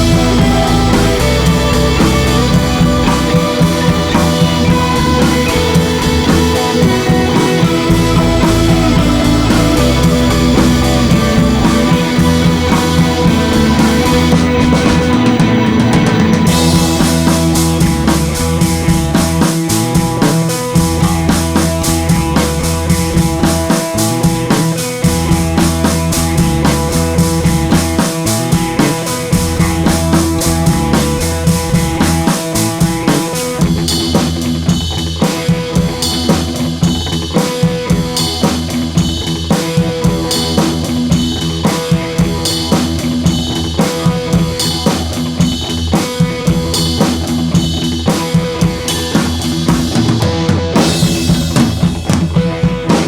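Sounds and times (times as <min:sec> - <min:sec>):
rock music with drums and bass: 0:00.0 - 0:53.0.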